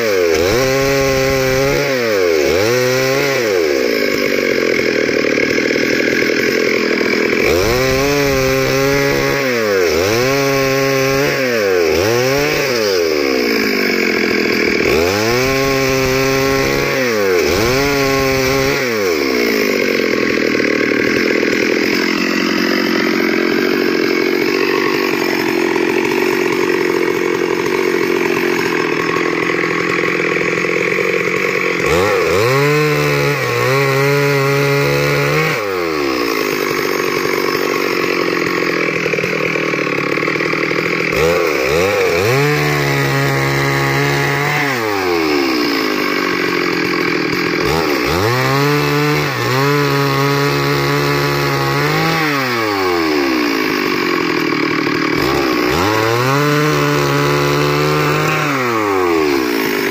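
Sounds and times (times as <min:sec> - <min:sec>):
petrol chainsaw cutting wood: 0:00.0 - 0:59.9.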